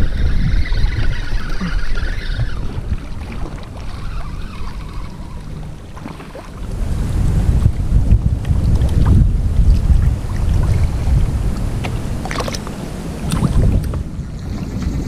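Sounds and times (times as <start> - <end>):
sea washing around kayak: 0.0 - 15.0
wind buffeting microphone: 0.0 - 15.0.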